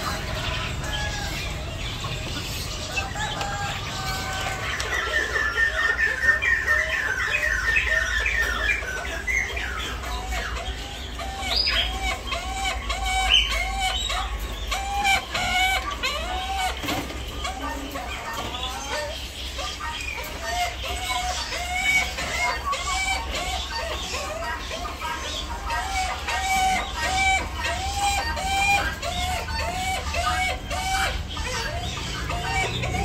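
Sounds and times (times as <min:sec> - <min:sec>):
bird chirps: 0:00.0 - 0:33.0
birds calling: 0:00.0 - 0:33.0
fowl clucking: 0:00.0 - 0:33.0.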